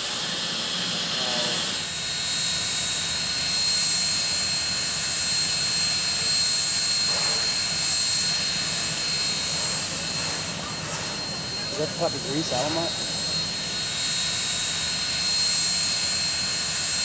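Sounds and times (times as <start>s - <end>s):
constant high whine: 0.0s - 17.0s
steam hissing: 0.0s - 17.0s.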